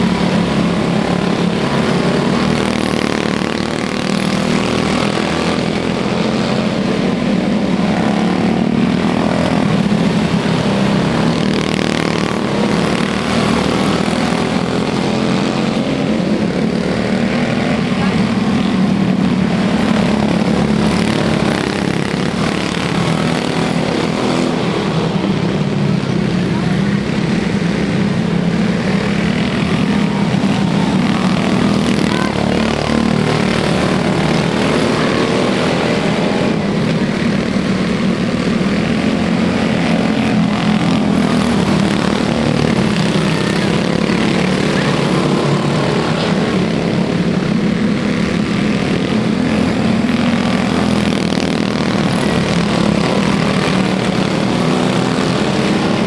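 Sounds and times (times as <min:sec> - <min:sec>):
small race car engines buzzing: 0:00.0 - 0:56.0.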